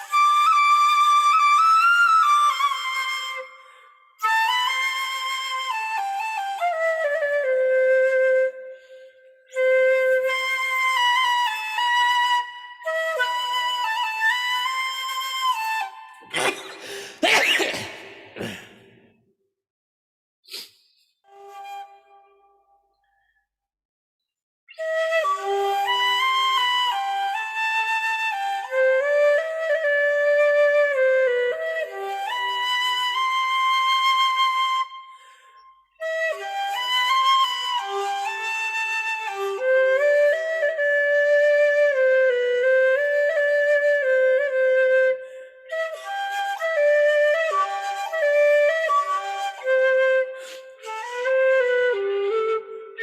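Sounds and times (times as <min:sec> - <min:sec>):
flute melody: 0:00.0 - 0:16.3, 0:21.3 - 0:22.8, 0:24.7 - 0:53.0.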